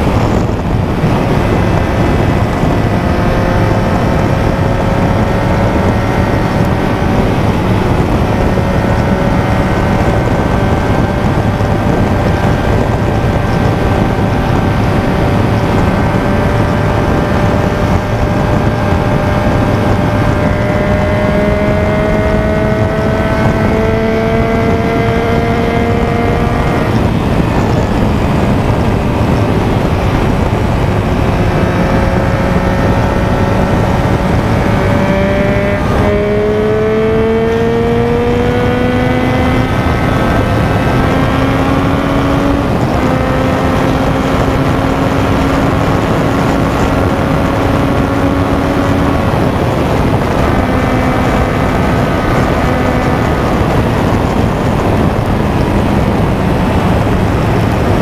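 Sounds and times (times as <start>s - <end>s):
wind rush: 0.0s - 58.0s.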